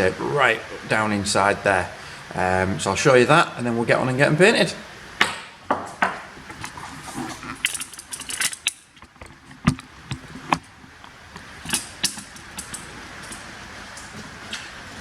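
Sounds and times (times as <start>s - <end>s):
hoses rustling: 0.0s - 15.0s.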